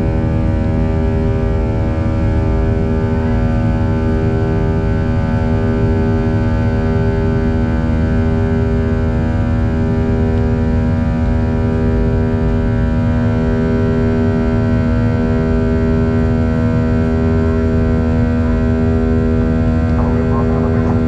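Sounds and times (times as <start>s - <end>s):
jet engines low rumble: 0.0s - 21.0s.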